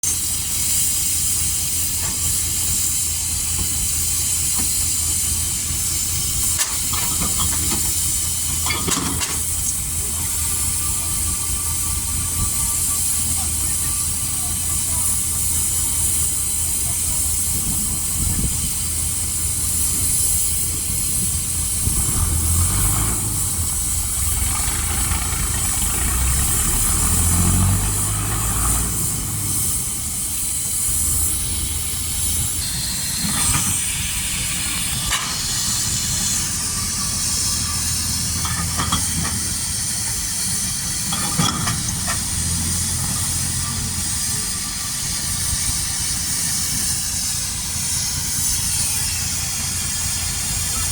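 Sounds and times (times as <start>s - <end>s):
steam engine hissing: 0.0s - 50.9s.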